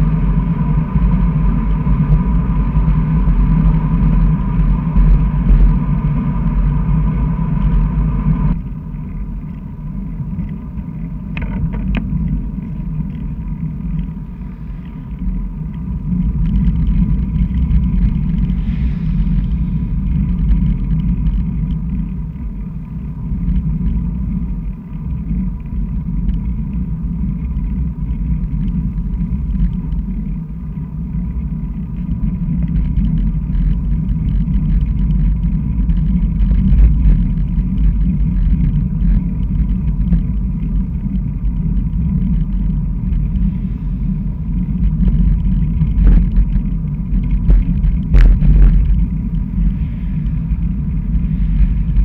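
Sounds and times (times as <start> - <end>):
road vibration rumble: 0.0 - 52.0
wind buffeting: 0.0 - 52.0.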